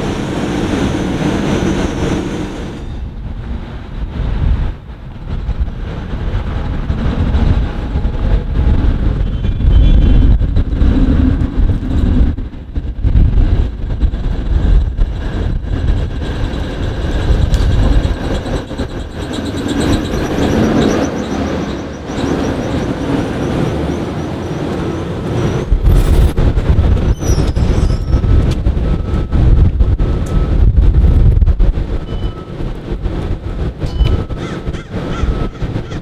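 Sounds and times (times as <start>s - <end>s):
heavy low rumbling: 0.0s - 36.0s
streetcar passing on rails: 0.0s - 36.0s.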